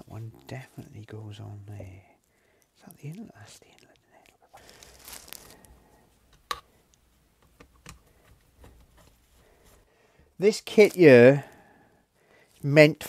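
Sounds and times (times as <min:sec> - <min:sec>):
rustling: 0:00.0 - 0:11.6.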